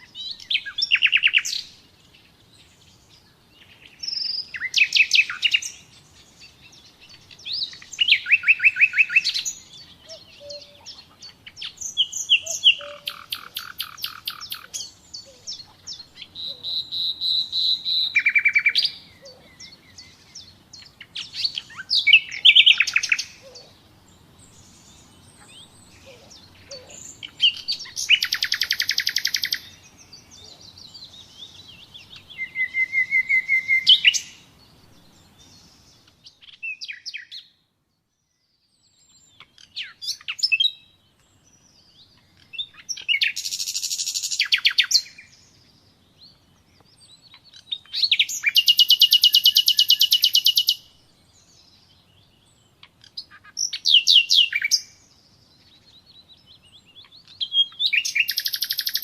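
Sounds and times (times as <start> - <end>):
nightingale singing trills: 0.0 - 59.0.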